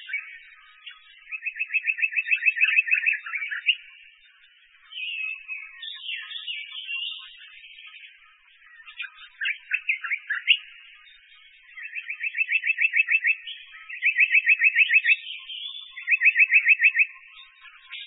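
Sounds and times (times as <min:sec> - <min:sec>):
bird chirps and trills: 0:00.0 - 0:18.0.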